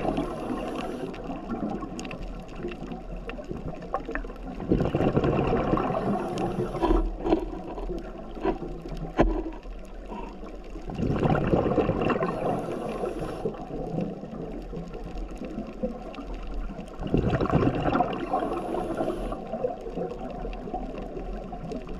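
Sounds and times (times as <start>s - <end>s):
scuba regulator exhaled bubbles: 0.0s - 8.7s, 10.0s - 14.8s, 16.9s - 21.5s.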